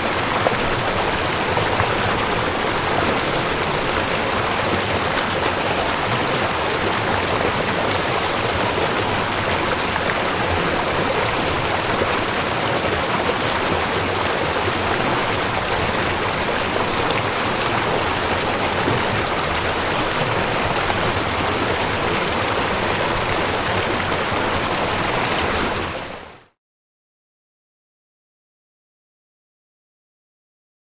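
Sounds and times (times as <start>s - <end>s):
river water rushing: 0.0s - 26.3s.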